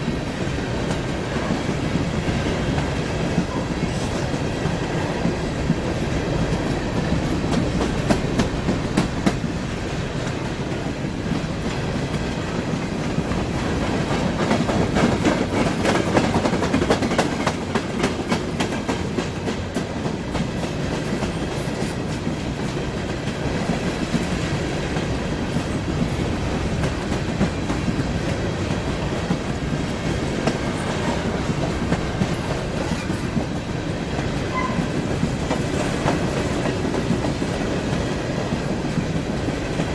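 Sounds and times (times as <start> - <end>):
steel wheels rumbling on rail: 0.0 - 39.9
wheels clicking over rail joints: 0.0 - 39.9.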